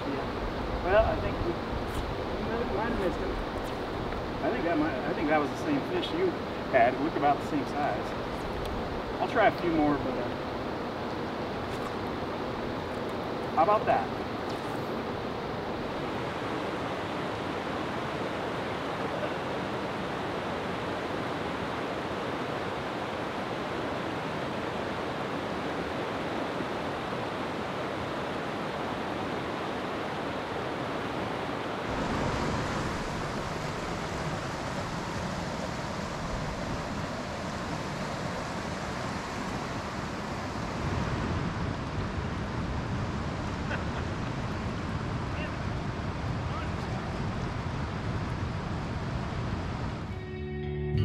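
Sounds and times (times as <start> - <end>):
stream rushing over boulders: 0.0 - 50.1.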